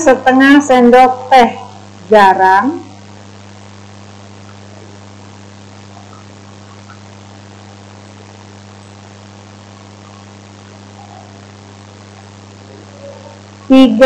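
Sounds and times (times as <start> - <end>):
background hiss: 0.0 - 14.0
low electrical hum: 0.0 - 14.0.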